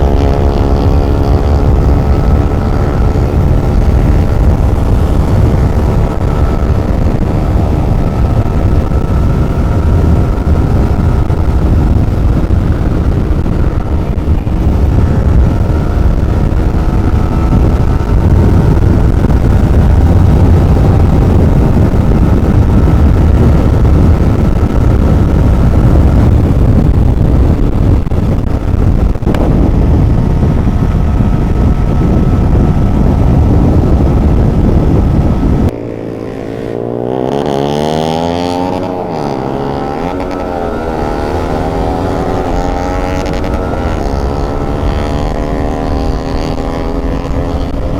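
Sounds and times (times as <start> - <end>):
motorcycle engine running: 0.0 - 47.9
wind rumble on microphone: 0.0 - 47.9.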